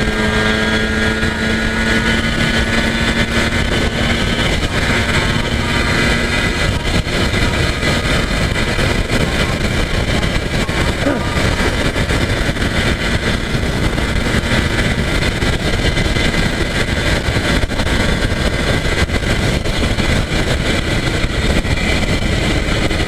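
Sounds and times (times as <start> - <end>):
motorcycle engine cruising: 0.0 - 23.0
steady low hum: 0.0 - 23.0
wind and road noise: 0.0 - 23.0.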